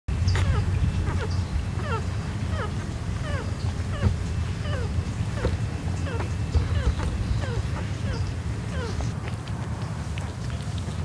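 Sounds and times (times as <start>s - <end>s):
steady low rumble: 0.1s - 11.0s
puppies squeaking: 0.3s - 9.2s.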